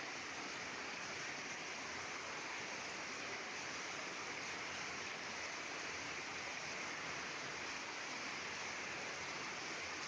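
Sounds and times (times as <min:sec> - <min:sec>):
heavy rain on pavement: 0:00.0 - 0:10.0.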